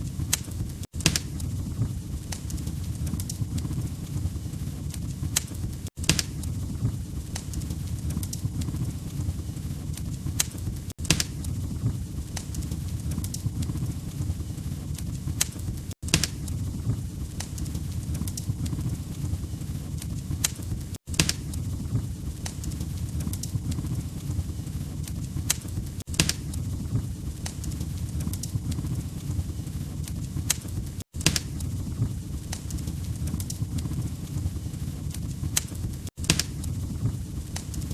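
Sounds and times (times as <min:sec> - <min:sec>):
low rumble of flames: 0:00.0 - 0:37.9
wood fire popping and snapping: 0:00.0 - 0:37.9.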